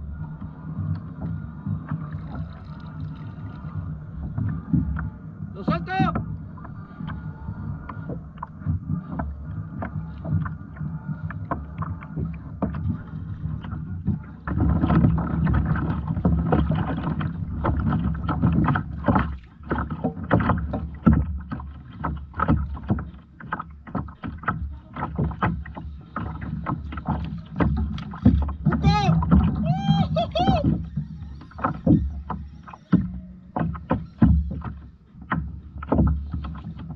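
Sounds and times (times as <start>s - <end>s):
water slapping against hull: 0.0s - 36.9s.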